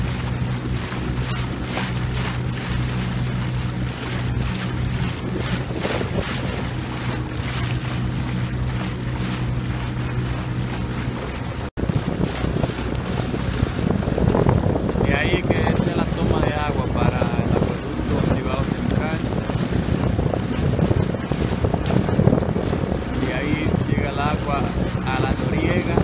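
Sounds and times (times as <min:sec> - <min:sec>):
boat motor humming: 0:00.0 - 0:26.0
water splashing: 0:00.0 - 0:26.0
wind buffeting microphone: 0:00.0 - 0:26.0.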